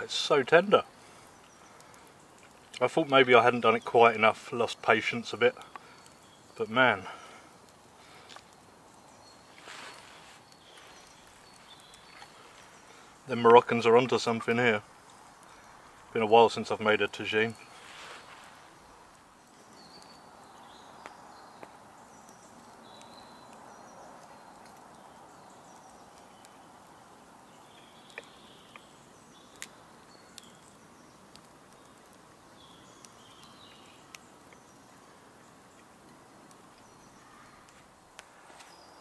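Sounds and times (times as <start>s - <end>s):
faint steady hush: 0.0s - 39.0s
faint bird chirps: 3.6s - 14.8s, 15.4s - 35.9s, 36.7s - 37.8s.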